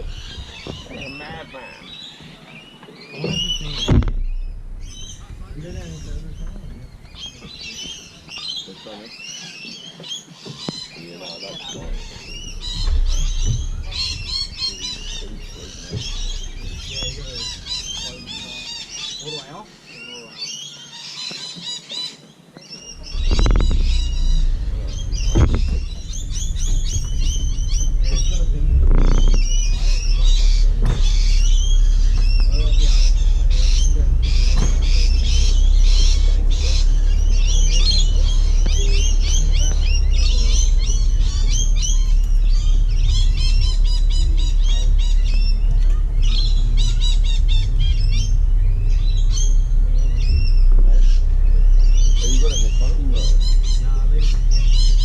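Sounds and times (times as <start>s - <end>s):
loud low rumble: 0.0s - 9.0s, 11.2s - 19.7s, 22.9s - 55.0s
small birds chirping: 0.0s - 55.0s.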